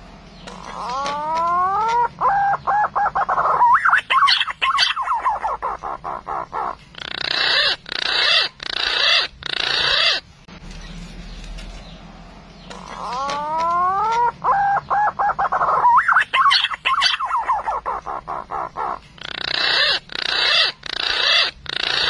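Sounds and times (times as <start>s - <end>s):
harsh grating bird calls: 0.2s - 22.0s
pigeon whistled calls: 0.5s - 10.2s, 12.8s - 22.0s.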